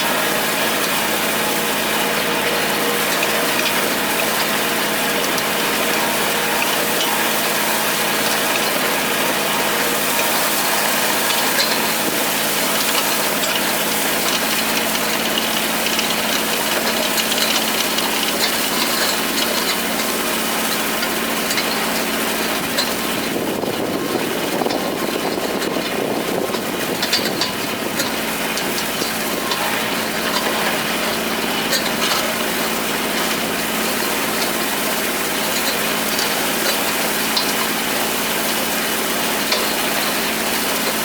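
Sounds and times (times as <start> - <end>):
hay tedder tines spreading hay: 0.0 - 41.0
tractor diesel engine running: 0.0 - 41.0.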